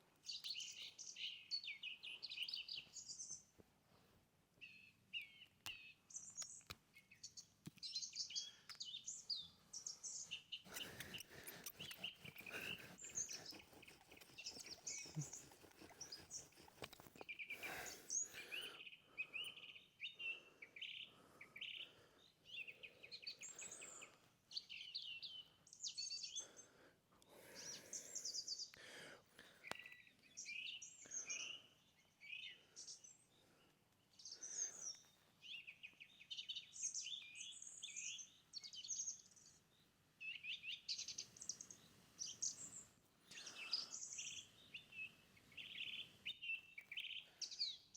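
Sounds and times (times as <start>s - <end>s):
birds chirping and trilling: 0.2s - 3.5s, 4.6s - 47.9s.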